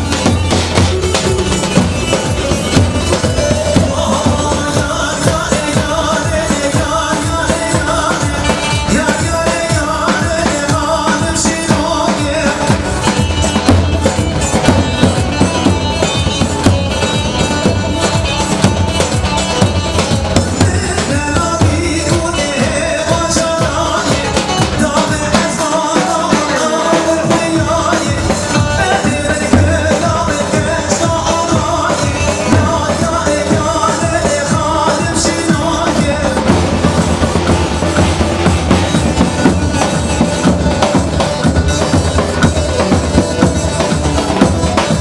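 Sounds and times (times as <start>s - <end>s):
keyboard and drums dance beat: 0.0s - 45.0s
person singing: 0.0s - 45.0s.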